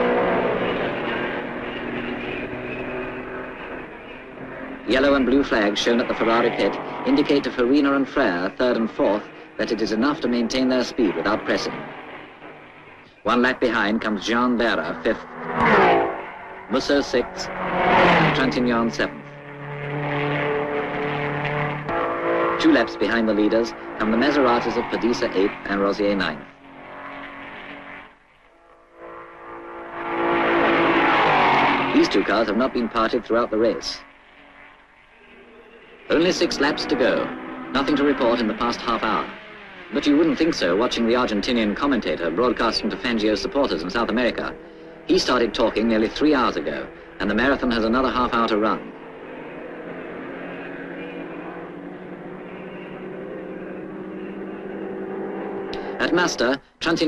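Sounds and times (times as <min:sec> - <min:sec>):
racing car engine passing: 0:00.0 - 0:57.0.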